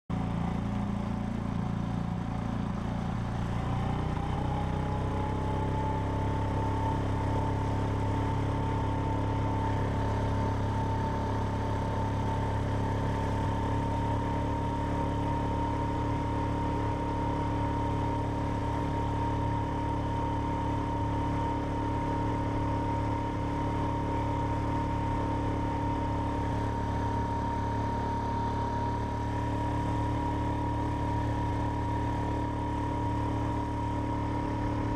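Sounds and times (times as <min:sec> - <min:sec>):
outboard motor whining: 0:00.2 - 0:34.9.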